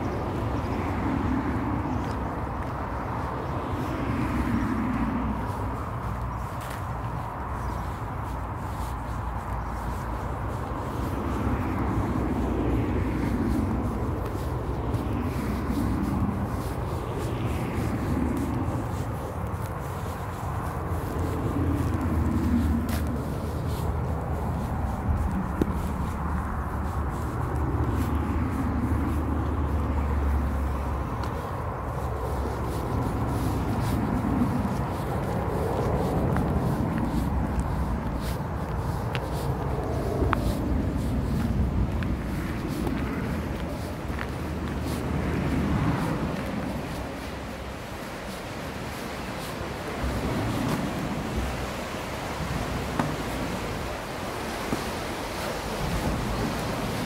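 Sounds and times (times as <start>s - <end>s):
road noise rumble: 0.0s - 57.0s
street hiss: 0.0s - 57.0s
vehicle passing: 0.0s - 57.0s.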